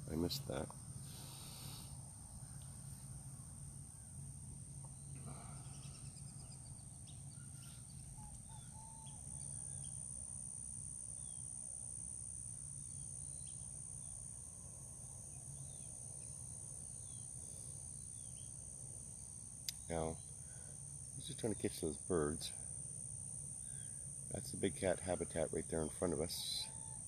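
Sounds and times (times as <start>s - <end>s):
high-pitched insect drone: 0.1s - 27.0s.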